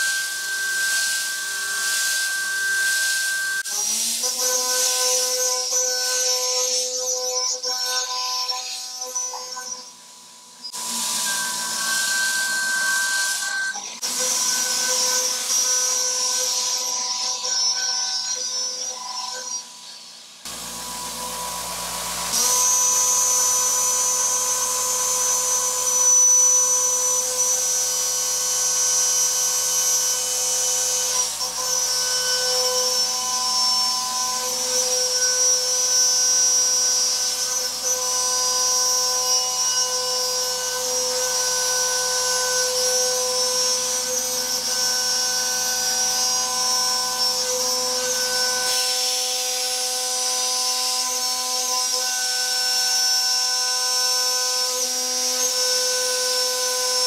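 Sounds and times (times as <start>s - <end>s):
milling machine whine: 0.0s - 57.0s.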